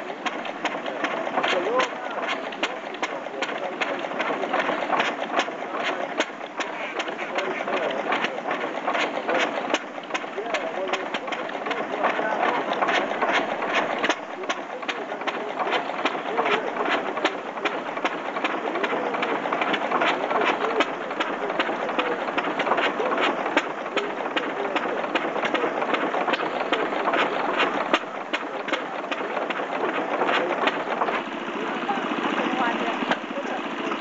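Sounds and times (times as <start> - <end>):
stationary engine putting: 0.0 - 34.0.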